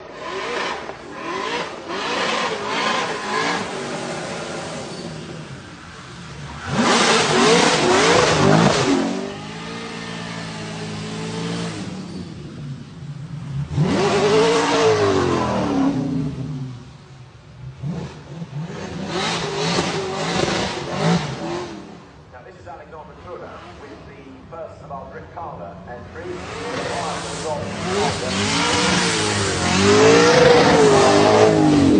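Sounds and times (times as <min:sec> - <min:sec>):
car engine revving hard: 0:00.0 - 0:17.0, 0:17.6 - 0:22.2, 0:26.0 - 0:31.9.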